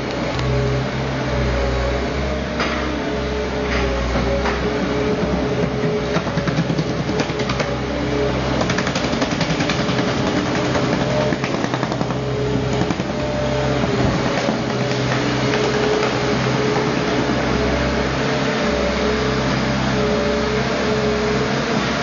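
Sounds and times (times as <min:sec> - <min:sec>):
skid steer engine running: 0:00.0 - 0:22.0.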